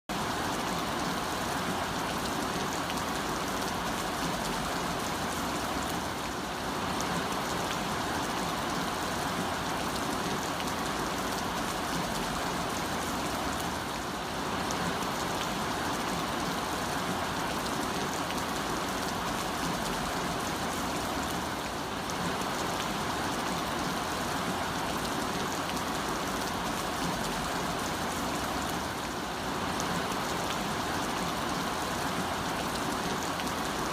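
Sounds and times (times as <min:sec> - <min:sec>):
heavy rain on a road: 0:00.1 - 0:33.9.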